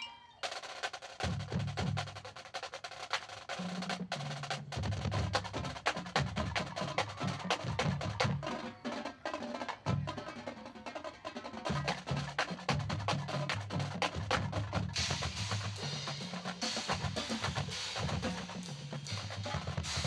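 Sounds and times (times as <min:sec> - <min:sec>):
drumline playing: 0:00.0 - 0:20.0.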